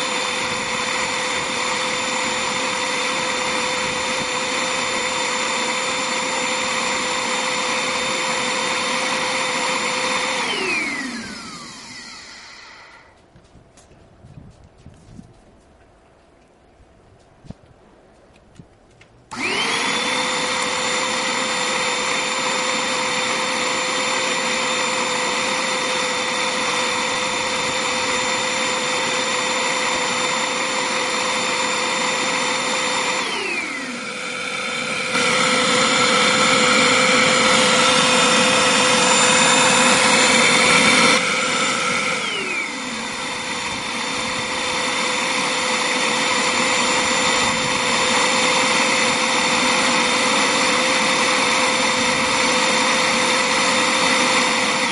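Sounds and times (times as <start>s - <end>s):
electric motor whining: 0.0s - 13.2s, 19.3s - 54.9s.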